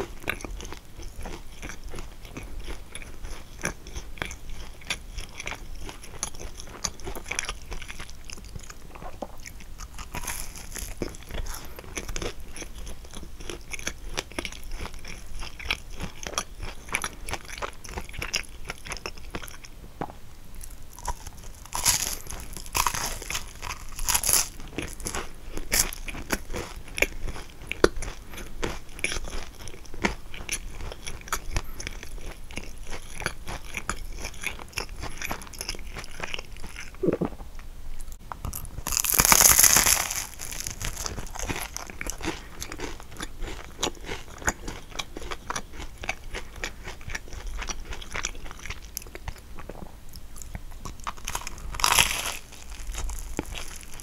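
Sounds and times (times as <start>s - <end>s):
chewing and crunching pastry: 0.0s - 19.8s, 20.5s - 37.4s, 38.0s - 54.0s.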